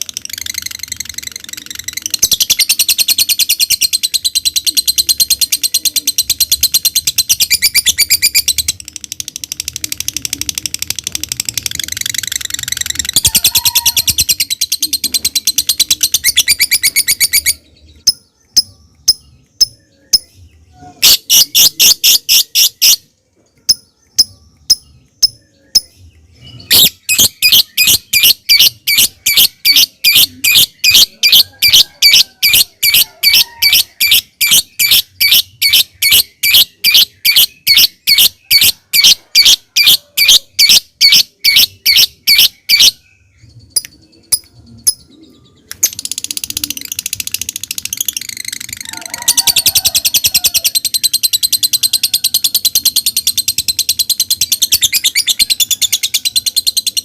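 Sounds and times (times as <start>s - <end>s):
lovebird chattering calls: 0.0s - 20.3s, 21.0s - 25.9s, 26.6s - 43.0s, 45.8s - 57.0s.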